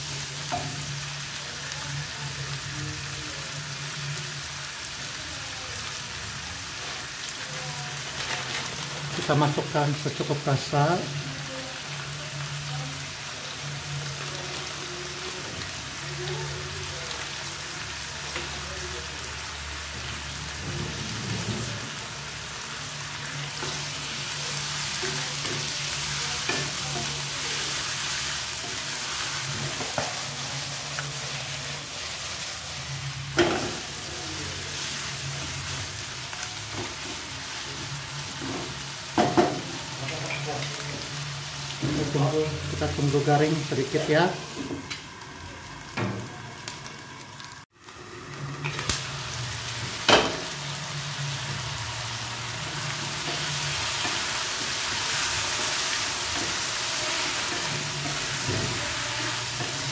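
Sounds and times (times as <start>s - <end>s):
chicken sizzling in oil: 0.0s - 59.9s.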